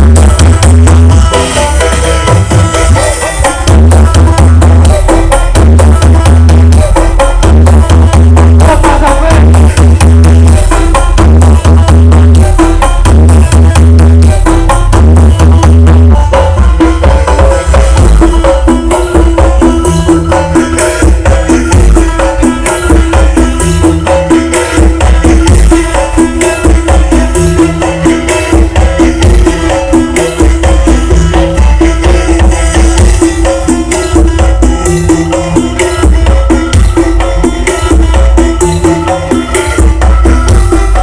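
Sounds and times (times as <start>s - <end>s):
hand drum percussion: 0.0s - 41.0s
heavy bass: 0.0s - 41.0s
loud dance remix music: 0.0s - 41.0s.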